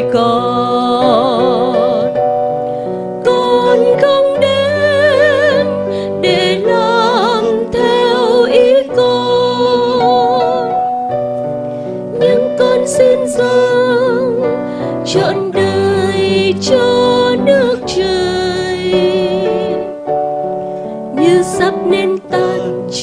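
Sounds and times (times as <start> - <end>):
person singing a hymn: 0.0 - 2.4, 3.1 - 23.0
electric keyboard chords: 0.0 - 23.0.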